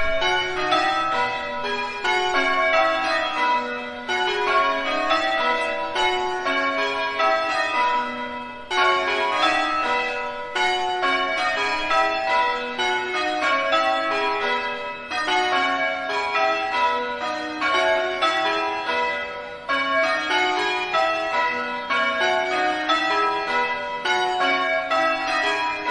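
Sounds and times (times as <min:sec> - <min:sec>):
church bells pealing: 0:00.0 - 0:25.9.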